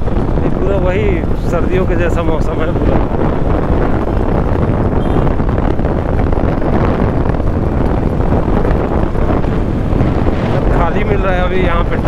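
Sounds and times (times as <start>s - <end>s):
motorcycle engine: 0.0s - 12.0s
road noise: 0.0s - 12.0s
wind buffeting microphone: 0.0s - 12.0s.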